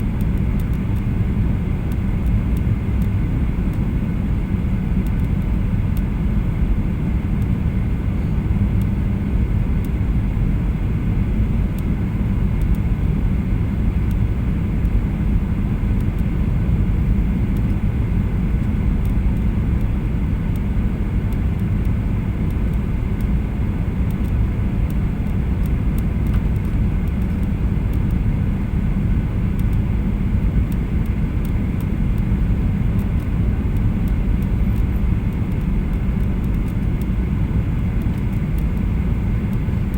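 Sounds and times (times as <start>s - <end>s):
airplane engine and airflow rumble: 0.0s - 39.9s.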